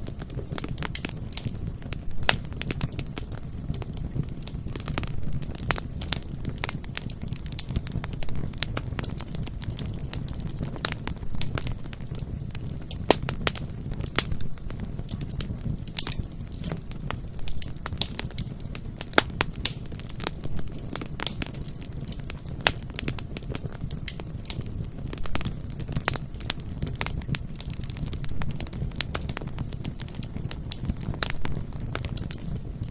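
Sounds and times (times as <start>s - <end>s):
low rumble of flames: 0.0s - 32.9s
wood crackling and popping: 0.0s - 32.9s.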